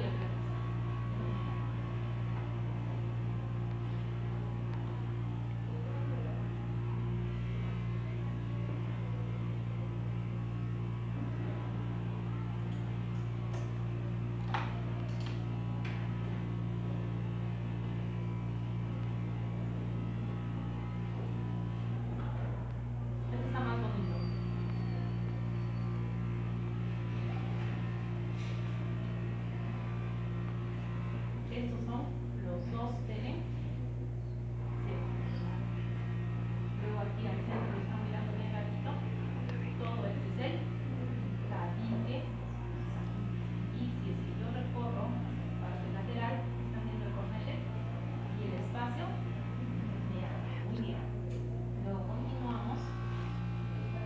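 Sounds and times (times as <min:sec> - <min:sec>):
electrical mains hum: 0:00.0 - 0:54.0
faint murmur of voices: 0:00.0 - 0:54.0.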